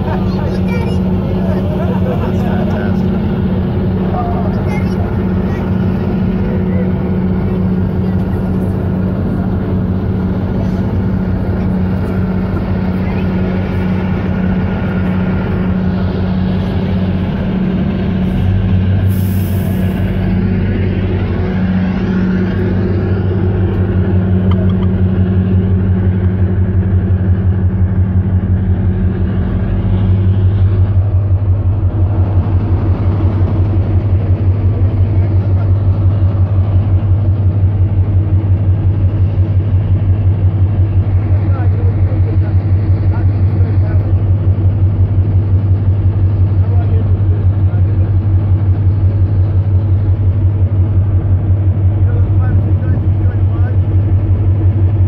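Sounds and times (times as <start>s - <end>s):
boat diesel engine droning: 0.0s - 55.0s.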